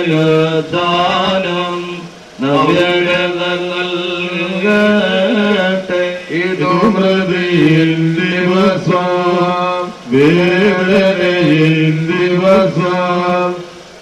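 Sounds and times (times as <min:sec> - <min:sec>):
men chanting a hymn: 0:00.0 - 0:13.9.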